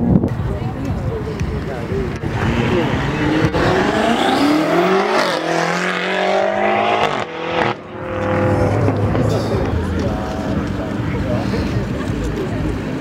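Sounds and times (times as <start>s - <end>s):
car engine accelerating hard: 2.1s - 13.0s.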